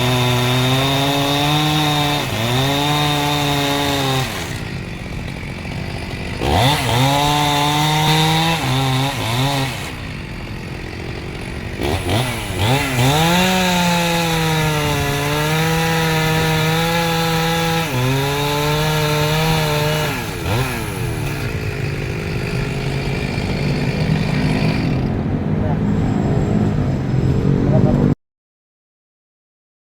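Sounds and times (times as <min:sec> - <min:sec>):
chainsaw revving: 0:00.0 - 0:25.2.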